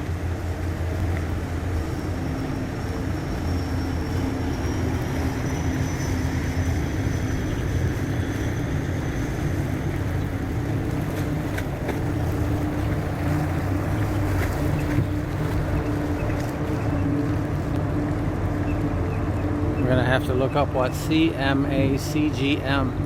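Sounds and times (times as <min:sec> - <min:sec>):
low ship engine drone: 0:00.0 - 0:23.0.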